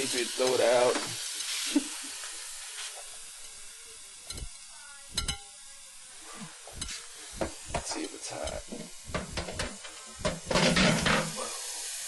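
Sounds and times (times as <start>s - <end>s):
burning material sizzling: 0.0s - 12.0s.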